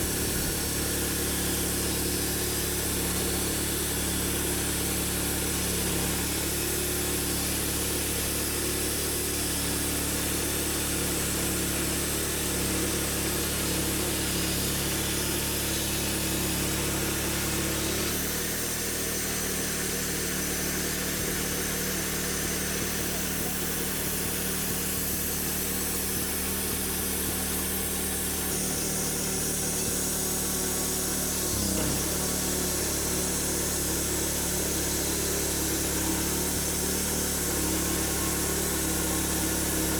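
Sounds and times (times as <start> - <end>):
sawmill cutting log: 0.0 - 39.9.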